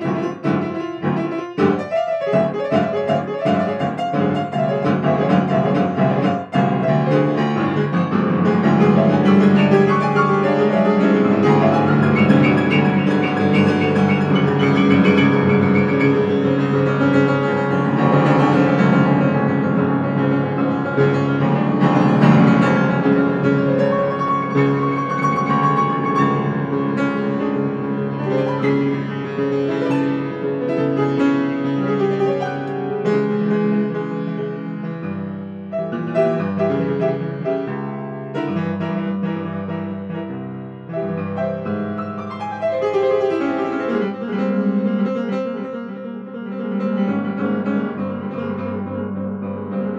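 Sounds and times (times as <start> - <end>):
grand piano chords: 0.0 - 49.9.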